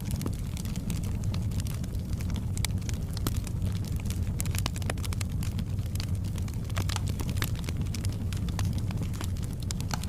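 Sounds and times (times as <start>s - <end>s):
low rumble of flames: 0.0s - 10.0s
wood fire crackling and popping: 0.0s - 10.0s.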